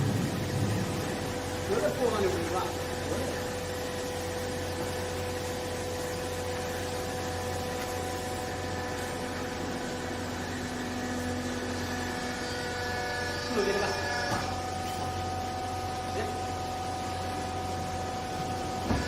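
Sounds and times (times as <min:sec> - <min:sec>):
machine motor humming: 0:00.0 - 0:19.0.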